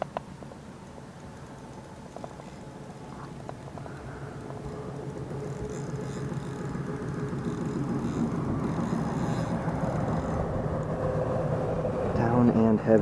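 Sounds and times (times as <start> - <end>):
faint engine hum: 0.0 - 13.0
road traffic rumble: 0.0 - 13.0.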